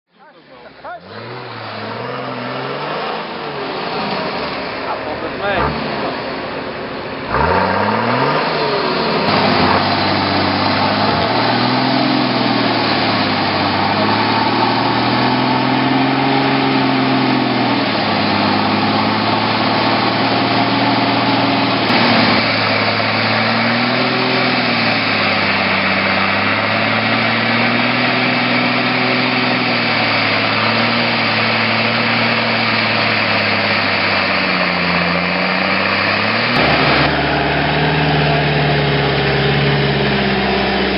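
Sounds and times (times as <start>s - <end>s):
buggy engine revving: 0.2s - 40.9s.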